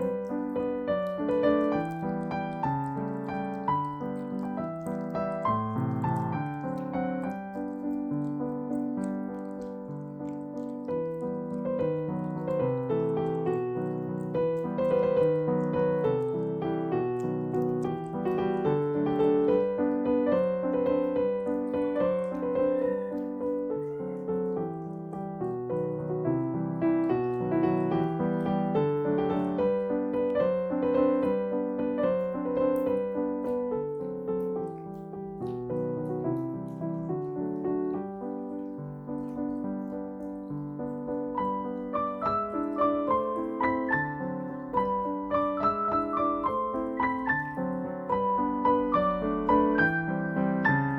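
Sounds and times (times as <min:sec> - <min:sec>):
slow piano music: 0:00.0 - 0:50.9.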